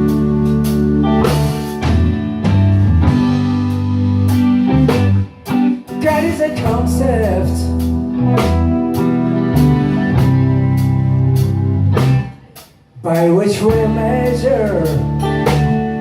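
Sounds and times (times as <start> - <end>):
band playing slow song: 0.0 - 16.0.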